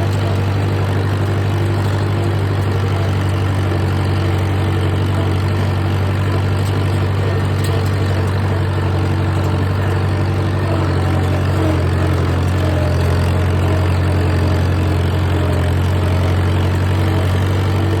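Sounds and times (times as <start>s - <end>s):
vehicle engine humming steadily: 0.0s - 18.0s.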